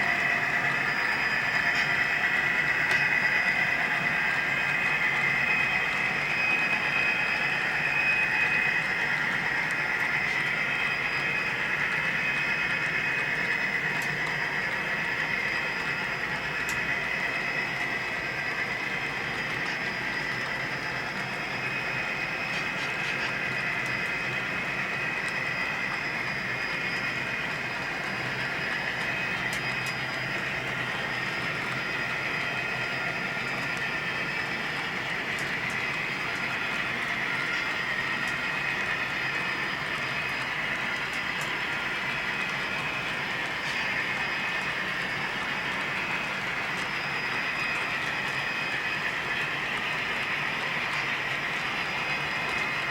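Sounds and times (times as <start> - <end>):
model train mechanical drone: 0.0 - 52.9.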